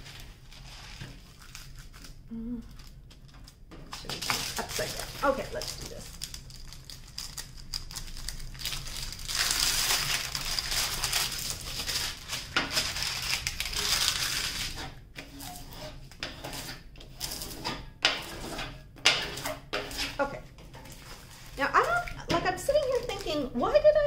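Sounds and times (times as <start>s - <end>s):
plastic film crinkling and rustling: 0.0s - 17.7s, 19.2s - 24.0s.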